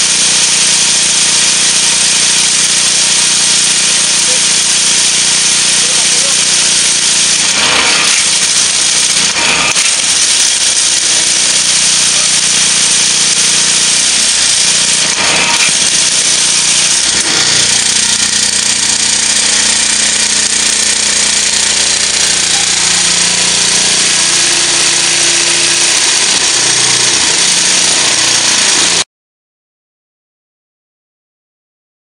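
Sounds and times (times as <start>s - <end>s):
block-making machine vibrating: 0.0s - 29.0s.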